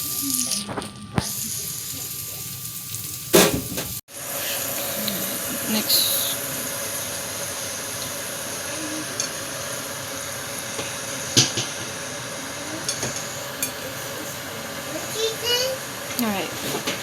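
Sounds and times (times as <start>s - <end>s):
fish sizzling in frying pan: 0.0s - 17.0s.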